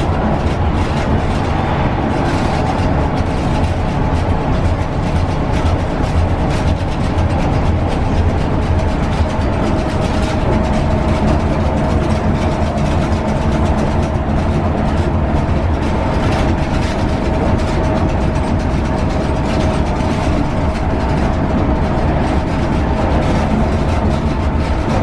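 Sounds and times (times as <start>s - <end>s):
bus engine drone: 0.0s - 25.0s
constant whine: 0.0s - 25.0s.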